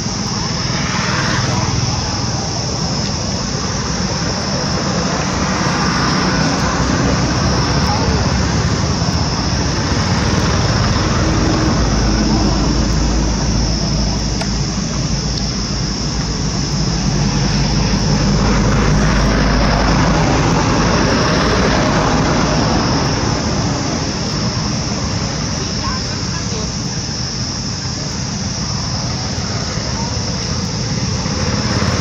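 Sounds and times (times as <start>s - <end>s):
deep low drone: 0.0s - 32.0s
vehicle engine running: 0.0s - 32.0s.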